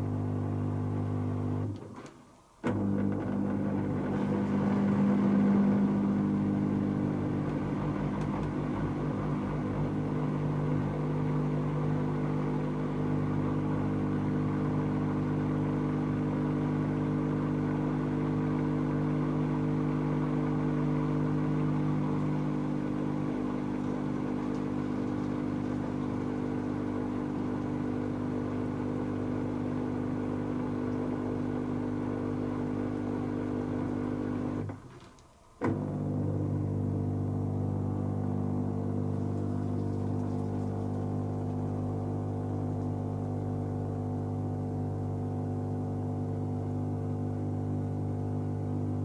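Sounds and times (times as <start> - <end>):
washing machine motor humming: 0.0 - 49.0.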